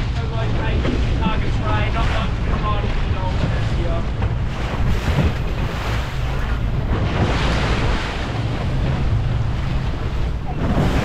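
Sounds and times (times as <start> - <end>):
choppy sea water: 0.0 - 11.0
low engine drone: 0.0 - 11.0
wind buffeting microphone: 0.0 - 11.0.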